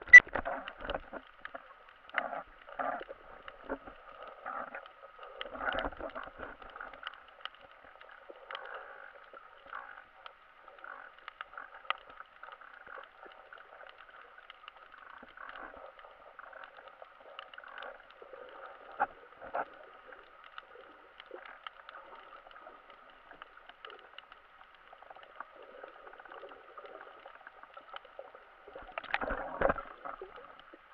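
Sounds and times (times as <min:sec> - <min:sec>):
muffled water hiss: 0:00.0 - 0:30.9
small clicks and crackles: 0:00.0 - 0:30.9.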